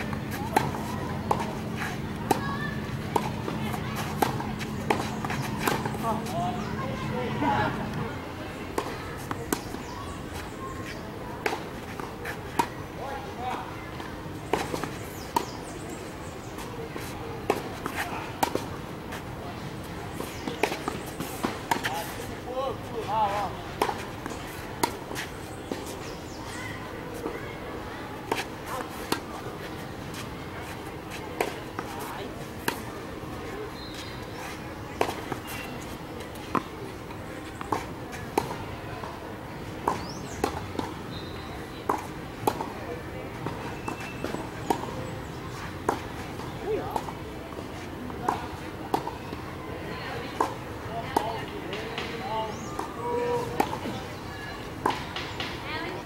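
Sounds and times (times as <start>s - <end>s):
tennis ball bounces: 0.0s - 15.6s, 16.5s - 18.7s, 19.6s - 22.2s, 22.9s - 26.2s, 28.2s - 33.0s, 33.6s - 39.2s, 39.8s - 49.2s, 50.3s - 54.2s, 54.8s - 56.0s.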